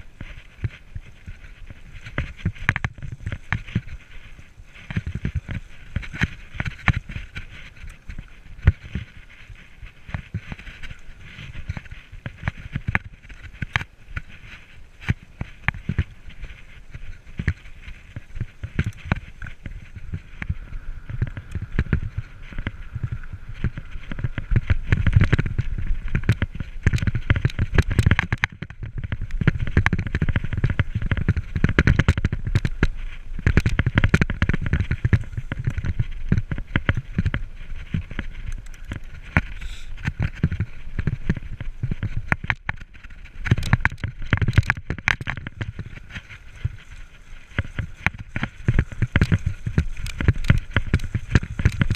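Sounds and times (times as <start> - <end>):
wind buffeting on microphone: 0.0 - 51.9
mountain bike clattering: 0.2 - 51.9.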